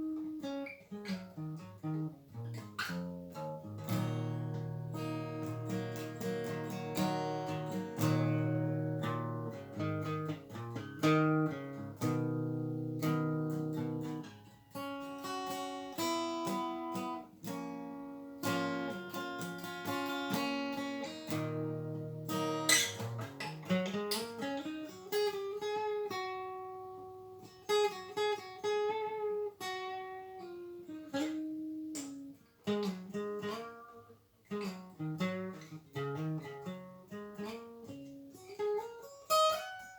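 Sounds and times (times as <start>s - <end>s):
solo guitar playing: 0.0s - 39.9s.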